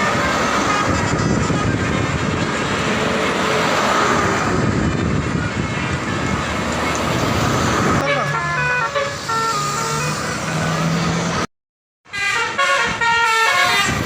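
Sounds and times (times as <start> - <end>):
bus engine and road noise: 0.0 - 11.5, 12.1 - 14.0.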